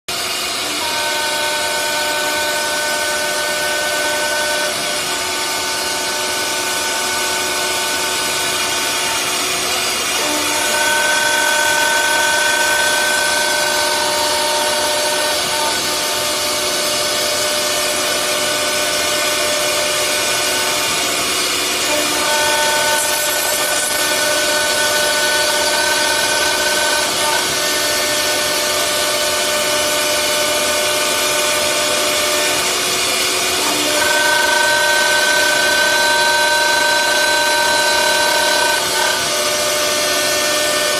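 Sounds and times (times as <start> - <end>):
router spindles whining: 0.1 - 40.9.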